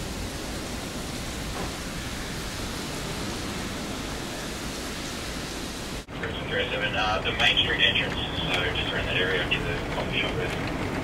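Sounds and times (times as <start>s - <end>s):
heavy rain through windows: 0.0s - 11.0s.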